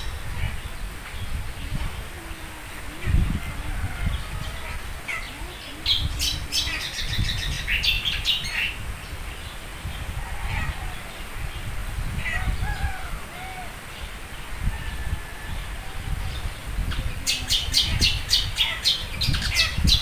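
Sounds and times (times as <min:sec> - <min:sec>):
birds chirping: 0:00.0 - 0:20.0
birds swooping calls: 0:00.0 - 0:20.0.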